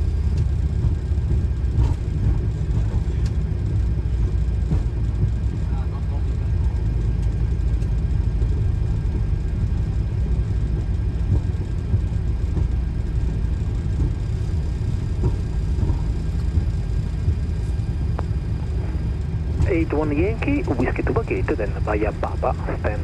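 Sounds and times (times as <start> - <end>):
airliner cockpit low rumble: 0.0 - 23.0.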